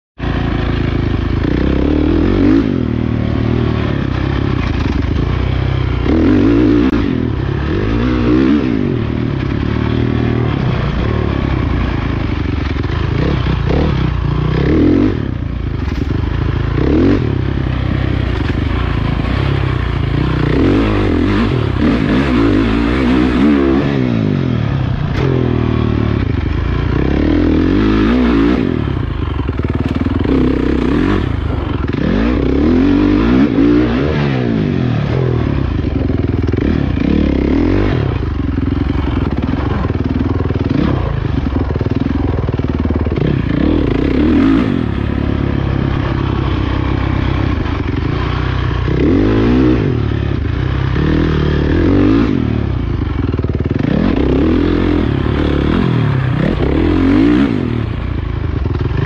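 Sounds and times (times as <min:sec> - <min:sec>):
dirt bike engine revving: 0:00.2 - 0:59.0.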